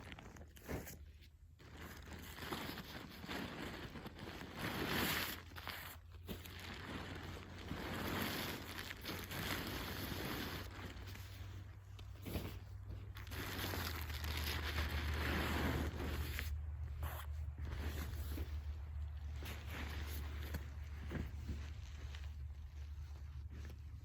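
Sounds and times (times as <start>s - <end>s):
camping gear rustling and crinkling: 0.0s - 24.0s.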